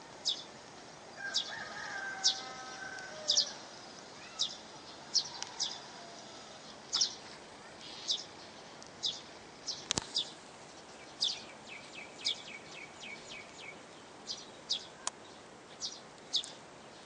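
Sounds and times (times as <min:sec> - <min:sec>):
small bird chirping: 0:00.2 - 0:00.5, 0:02.2 - 0:03.6, 0:04.2 - 0:17.0.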